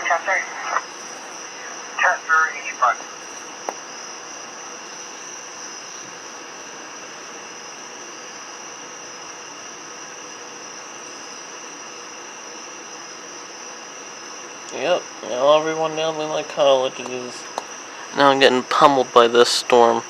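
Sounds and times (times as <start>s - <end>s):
background hiss: 0.0s - 20.0s
insects chirring: 0.0s - 20.0s.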